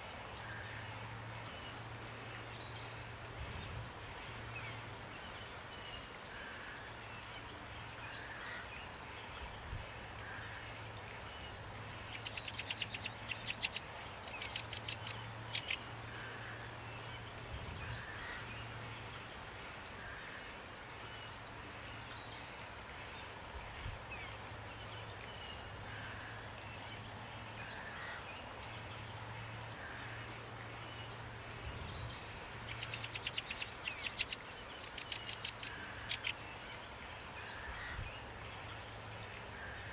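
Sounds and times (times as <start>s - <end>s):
songbirds singing: 0.0s - 39.9s
steady rain: 0.0s - 39.9s.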